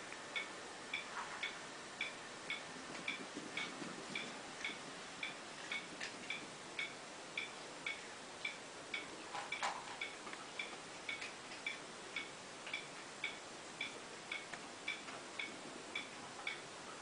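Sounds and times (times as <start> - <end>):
steady high ticking: 0.0 - 17.0.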